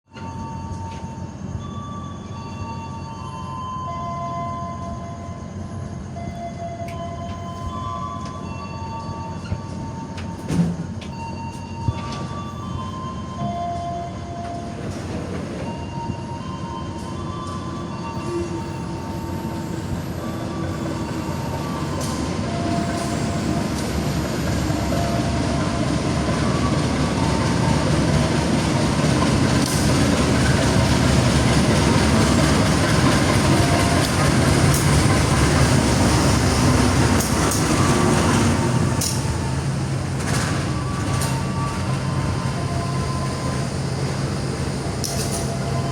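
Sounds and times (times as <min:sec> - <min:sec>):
train rumbling on rails: 0:00.1 - 0:45.9.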